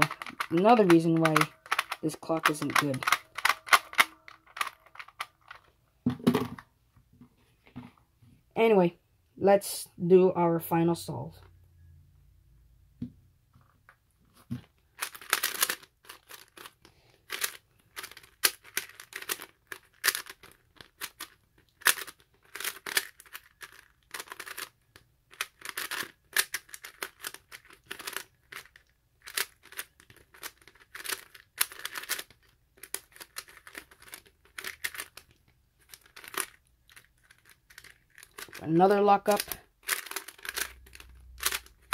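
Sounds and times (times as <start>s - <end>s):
puzzle cube clacking and rattling: 0.0s - 6.6s, 14.5s - 41.9s.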